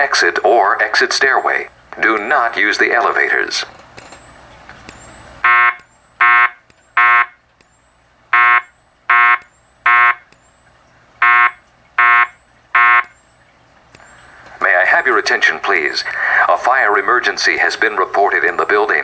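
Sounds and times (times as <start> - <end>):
fire alarm beeps: 0.0 - 19.0.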